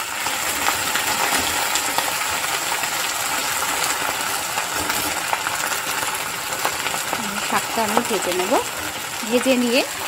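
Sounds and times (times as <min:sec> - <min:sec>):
leaves sizzling in oil: 0:00.0 - 0:10.0.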